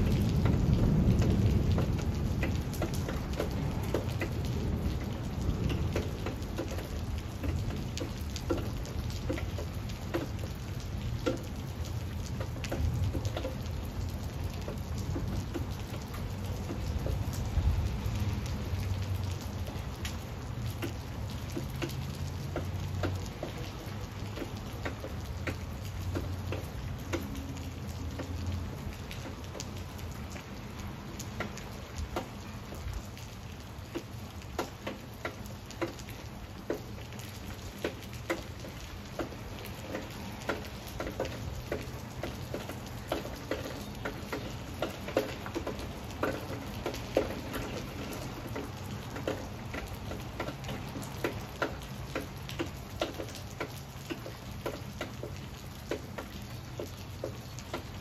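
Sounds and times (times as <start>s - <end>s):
rain falling on leafy foliage: 0.0s - 58.0s
raindrops striking sharply: 0.0s - 58.0s.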